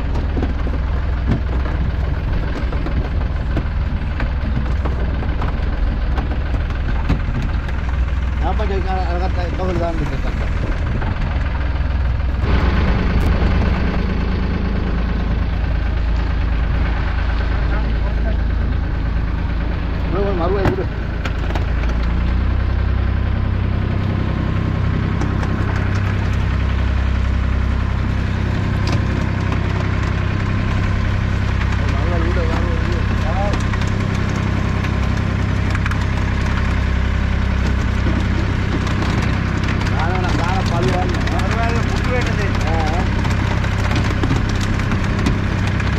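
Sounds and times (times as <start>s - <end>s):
boat engine idling: 0.0s - 45.9s
water splashing and rushing: 0.0s - 45.9s.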